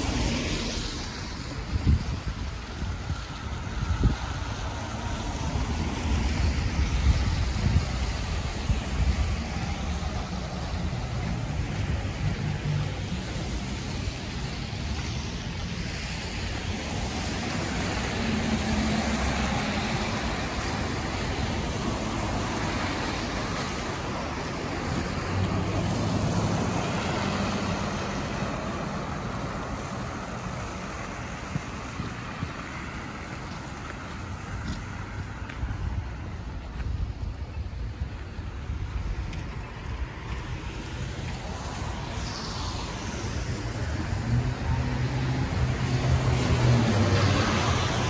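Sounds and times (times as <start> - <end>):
cars driving past on wet road: 0.0 - 48.0.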